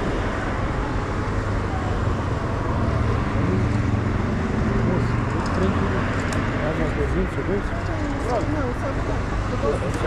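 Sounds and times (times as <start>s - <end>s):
road traffic engine hum: 0.0s - 10.0s.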